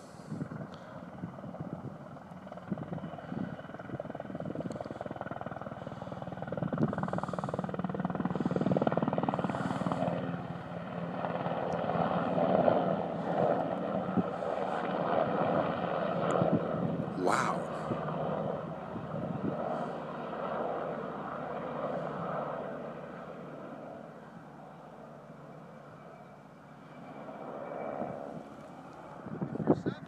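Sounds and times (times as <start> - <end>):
helicopter rotor blades chopping: 0.0 - 30.0.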